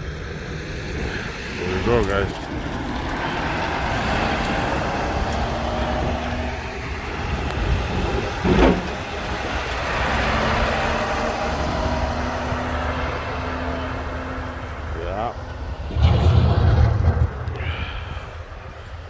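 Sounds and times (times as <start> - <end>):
truck diesel engines rumbling: 0.0 - 19.0.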